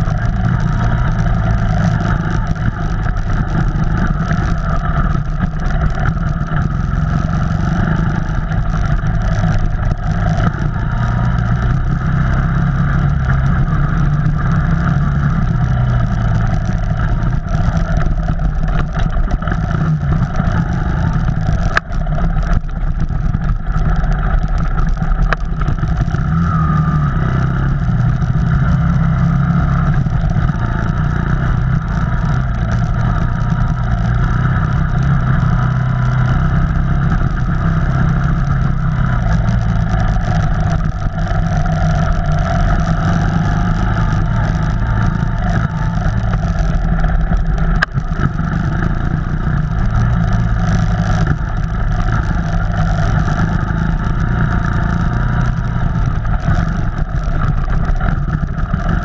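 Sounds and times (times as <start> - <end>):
off-road vehicle engine running: 0.0 - 59.0.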